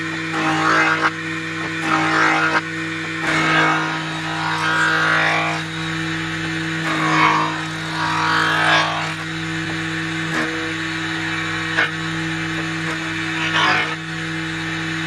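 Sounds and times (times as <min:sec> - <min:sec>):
cutterhead planing a board: 0:00.0 - 0:15.0
jointer motor hum: 0:00.0 - 0:15.0.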